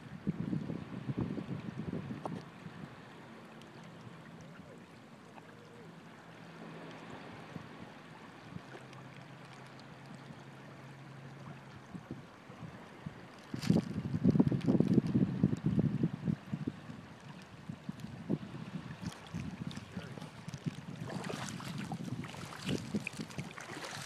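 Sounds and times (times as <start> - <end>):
water trickling and lapping: 0.0 - 24.0.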